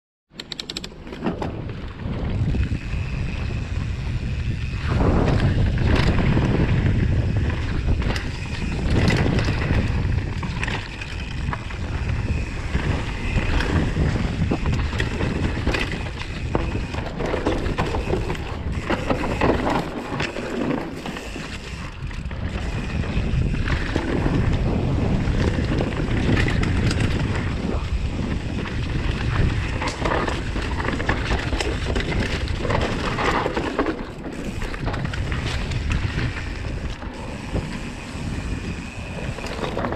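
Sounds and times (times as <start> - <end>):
bike clicks and rattles: 0.3 - 39.9
bike tyre noise: 0.5 - 39.9
wind buffeting microphone: 1.3 - 39.9.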